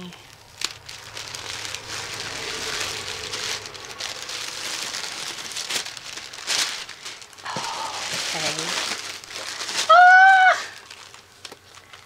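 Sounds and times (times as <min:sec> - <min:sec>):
paper wrapping crinkling: 0:00.0 - 0:12.0
sharp crackle of wrapping: 0:00.0 - 0:12.0.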